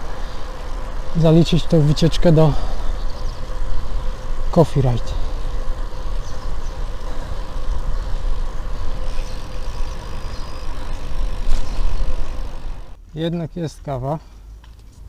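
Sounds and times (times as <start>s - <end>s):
wind rushing over microphone: 0.0s - 13.0s
bicycle tyre and road noise: 0.0s - 15.0s.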